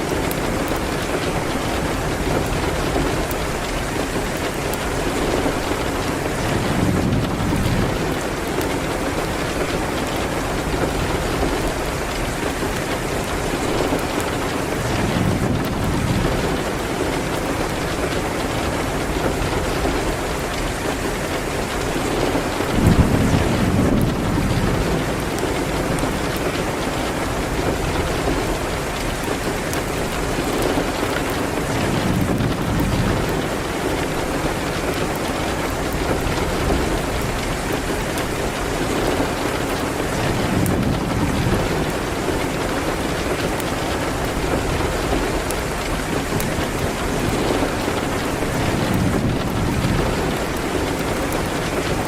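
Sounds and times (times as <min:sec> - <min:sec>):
rain hitting a window: 0:00.0 - 0:52.0
wood fire crackling: 0:00.0 - 0:52.0.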